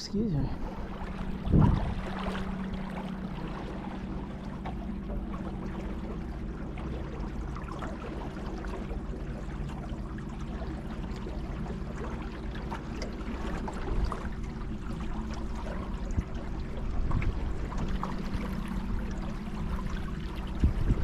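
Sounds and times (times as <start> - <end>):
steady low hum: 0.0 - 21.0
water splashing and trickling: 0.0 - 21.0.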